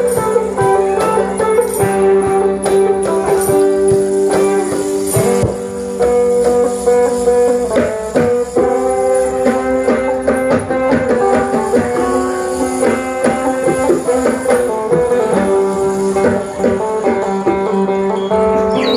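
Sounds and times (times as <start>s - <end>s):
plucked lute melody: 0.0s - 18.9s.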